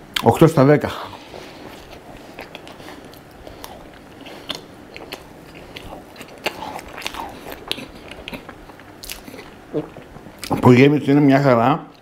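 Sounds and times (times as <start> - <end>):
pastry crunching: 1.0 - 10.7
person chewing: 1.0 - 10.7.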